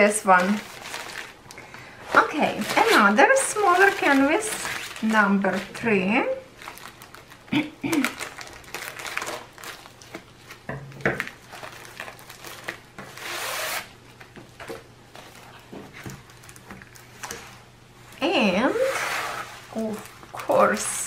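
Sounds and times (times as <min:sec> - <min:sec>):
plastic packaging rustling: 0:00.0 - 0:21.0.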